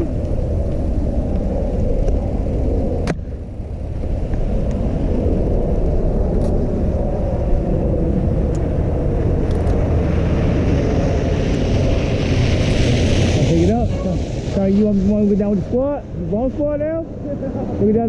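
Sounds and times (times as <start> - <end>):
bicycle tyre noise: 0.0 - 17.0
wind rumble: 0.0 - 18.0.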